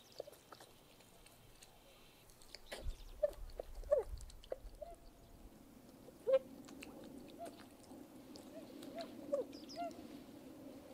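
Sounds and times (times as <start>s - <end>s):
low steady murmur: 0.0s - 10.9s.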